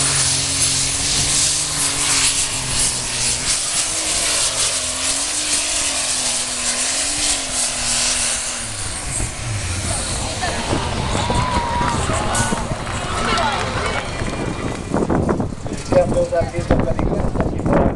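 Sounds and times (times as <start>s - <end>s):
diesel engine at full power: 0.0s - 17.9s.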